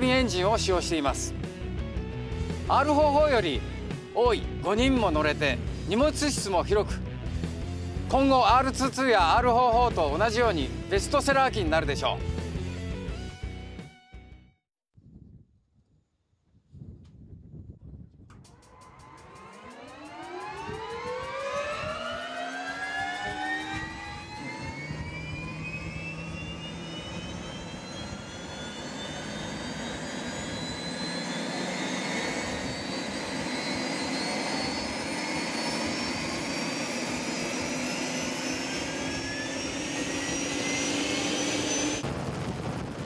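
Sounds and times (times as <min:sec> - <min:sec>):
turbine engine spooling up: 0:00.0 - 0:13.6, 0:18.3 - 0:43.0.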